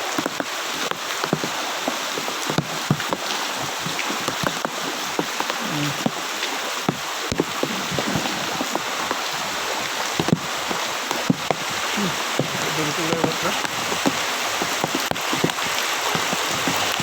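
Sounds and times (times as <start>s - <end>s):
heavy rain on water: 0.0s - 17.0s.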